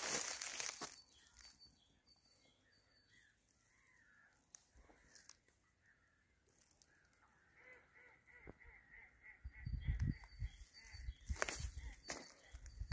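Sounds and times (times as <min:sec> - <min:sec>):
faint distant bird calls: 0:00.0 - 0:12.9.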